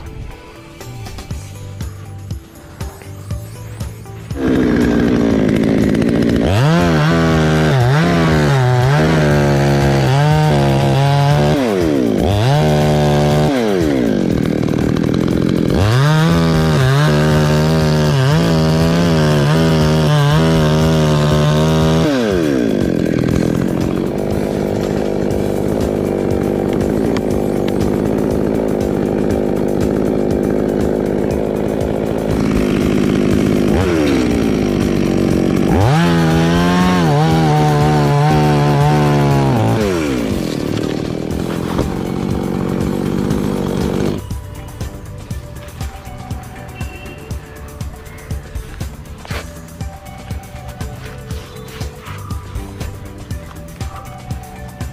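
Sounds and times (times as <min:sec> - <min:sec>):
chainsaw cutting branch: 0:00.8 - 0:54.9.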